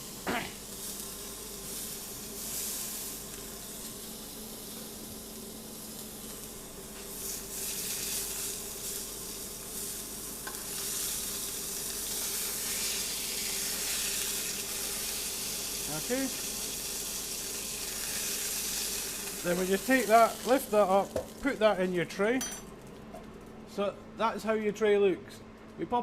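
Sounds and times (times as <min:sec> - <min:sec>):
meat sizzling in a frying pan: 0:00.0 - 0:21.8.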